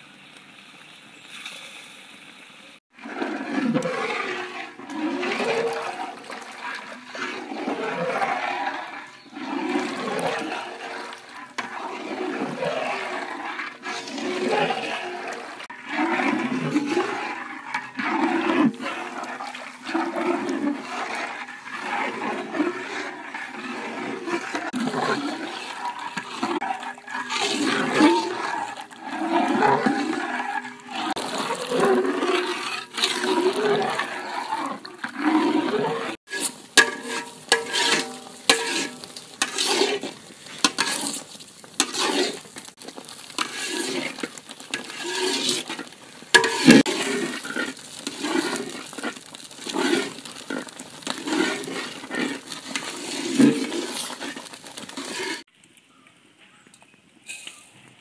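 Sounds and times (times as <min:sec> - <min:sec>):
batter sloshing and squelching: 0:02.9 - 0:55.5
spoon scraping metal bowl: 0:03.0 - 0:55.5.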